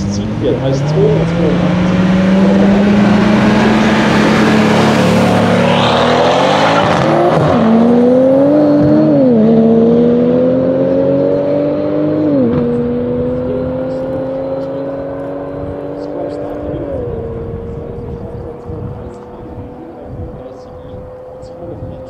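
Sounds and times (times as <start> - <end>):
car engine revving and accelerating: 0.0 - 22.0.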